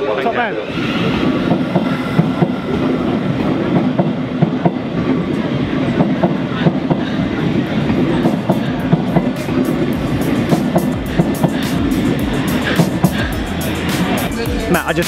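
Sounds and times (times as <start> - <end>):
electric train rumbling: 0.0 - 15.0
wheels clicking over rails: 1.2 - 14.5.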